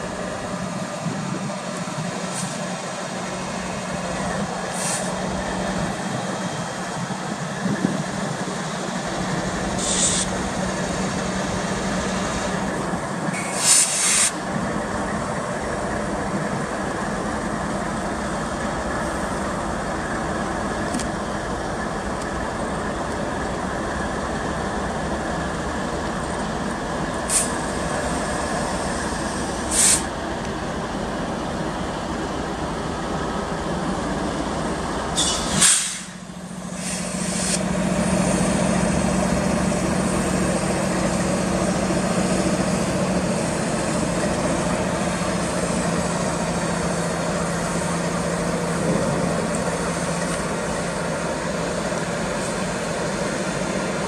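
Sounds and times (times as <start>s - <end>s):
diesel locomotive engine: 0.0s - 54.0s
low engine drone: 0.0s - 54.0s
rail rumble: 0.0s - 54.0s.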